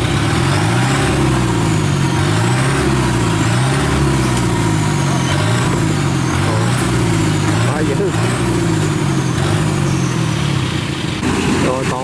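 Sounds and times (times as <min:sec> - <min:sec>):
diesel engine labouring: 0:00.0 - 0:12.0.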